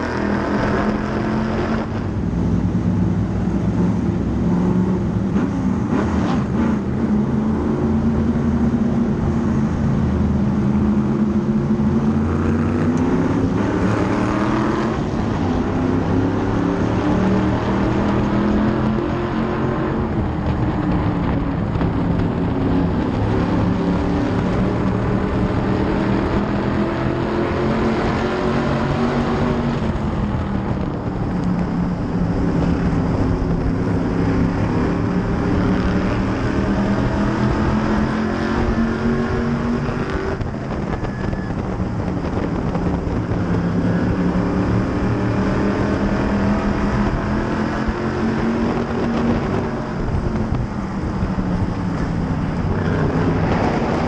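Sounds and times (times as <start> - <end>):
race car engine at low speed: 0.0 - 54.0.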